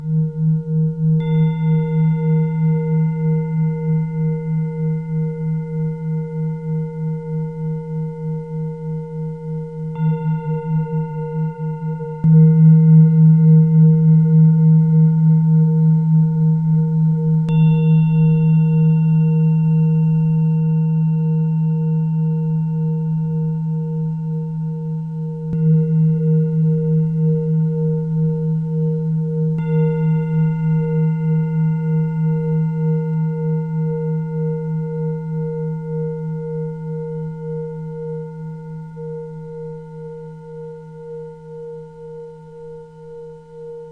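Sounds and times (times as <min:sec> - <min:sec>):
singing bowls ringing: 0:00.0 - 0:43.9.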